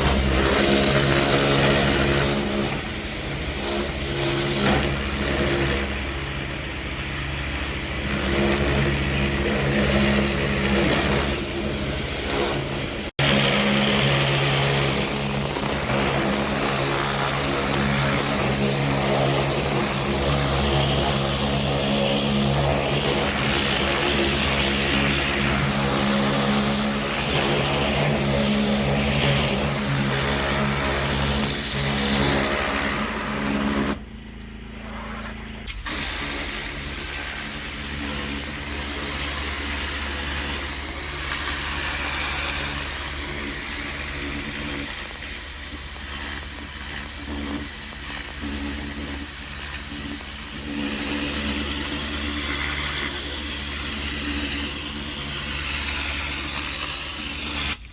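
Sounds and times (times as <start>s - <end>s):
small gasoline engine running: 0.0s - 57.9s.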